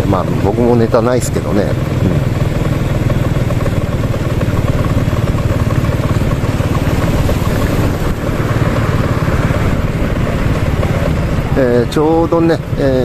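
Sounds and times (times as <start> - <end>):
small motorbike engine running: 0.0 - 13.0
wind and road noise: 0.0 - 13.0.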